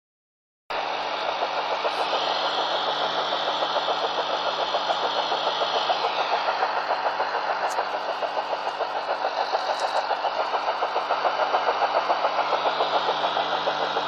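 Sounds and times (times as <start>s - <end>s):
fast regular radio tapping: 1.2s - 14.0s.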